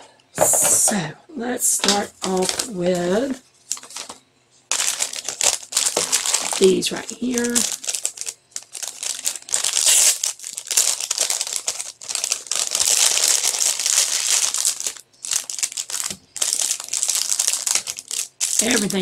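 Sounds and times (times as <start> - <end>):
plastic packets crinkling: 1.8 - 19.0.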